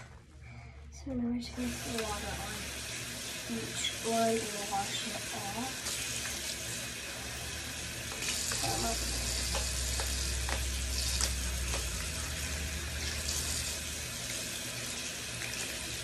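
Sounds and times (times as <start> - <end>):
faucet running into sink: 1.6 - 16.0.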